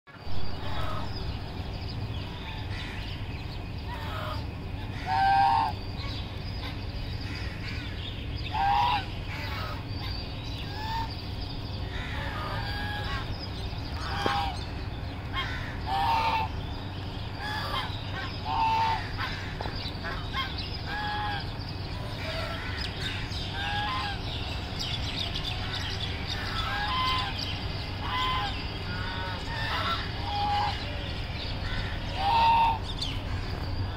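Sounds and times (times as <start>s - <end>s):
low background hum: 0.1s - 33.9s
geese honking: 0.5s - 33.9s.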